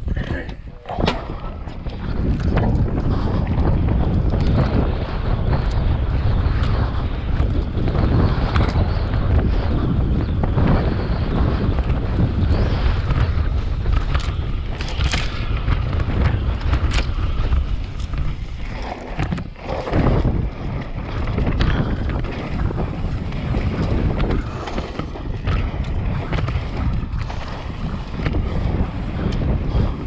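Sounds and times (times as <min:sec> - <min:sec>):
bike clicks and rattles: 0:00.0 - 0:30.0
wind buffeting microphone: 0:00.0 - 0:30.0.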